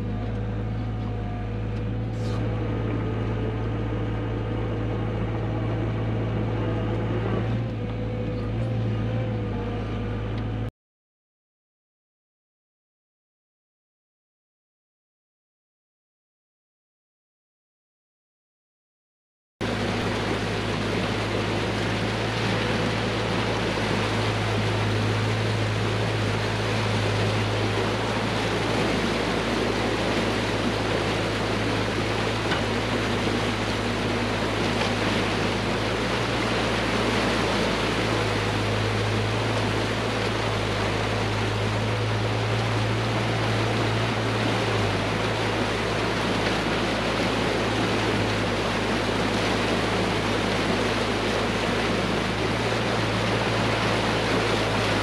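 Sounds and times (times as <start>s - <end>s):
low engine drone: 0.0s - 10.7s, 19.6s - 55.0s.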